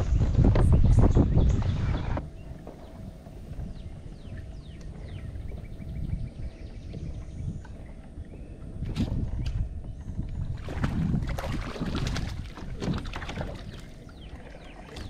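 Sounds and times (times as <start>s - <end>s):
knocks and clatter on kayak: 0.0s - 15.0s
water noise: 0.0s - 15.0s
wind on microphone: 0.0s - 15.0s.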